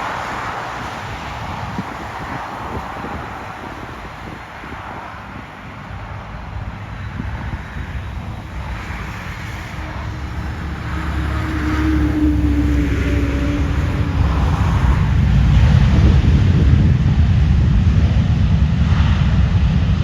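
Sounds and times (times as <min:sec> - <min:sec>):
jet airliner engine rumble: 0:00.0 - 0:20.0.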